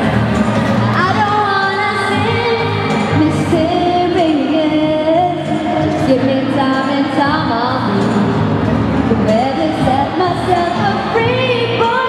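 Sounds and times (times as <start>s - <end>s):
amplified backing music: 0.0s - 12.0s
woman singing into a microphone: 0.0s - 12.0s.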